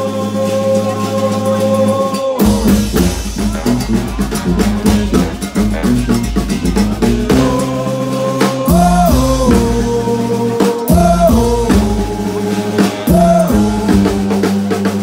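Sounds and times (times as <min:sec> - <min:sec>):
brass band horns playing: 0:00.0 - 0:15.0
drums: 0:00.0 - 0:15.0.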